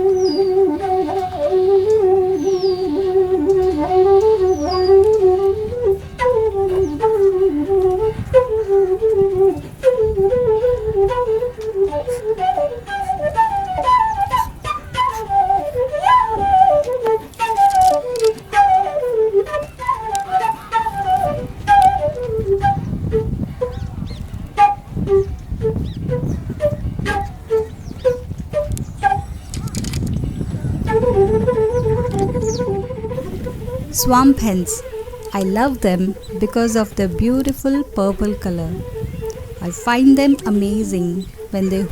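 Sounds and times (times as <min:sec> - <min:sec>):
flute melody: 0:00.0 - 0:41.9.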